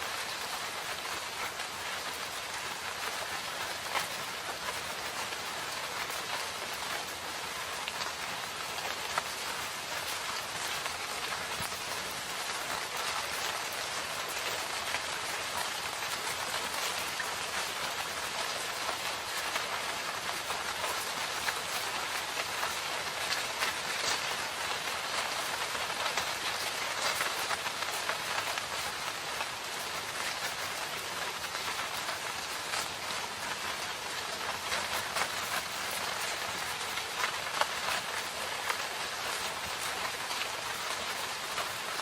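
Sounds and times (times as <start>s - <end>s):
rain falling in a forest: 0.0s - 42.0s.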